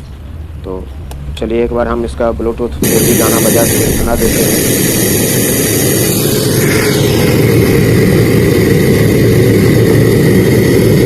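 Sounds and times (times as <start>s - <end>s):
low rumble from speakers: 0.0s - 11.0s.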